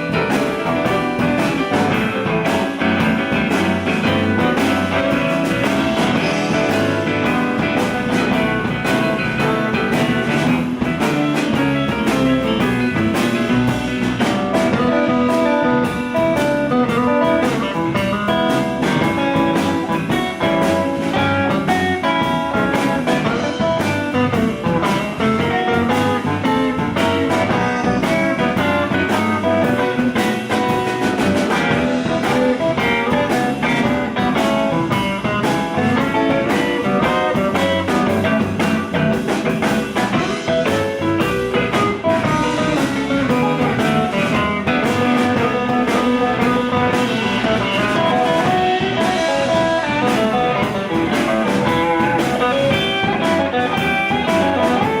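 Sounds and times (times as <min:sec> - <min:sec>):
blues band playing: 0:00.0 - 0:55.0
lead guitar: 0:00.0 - 0:55.0.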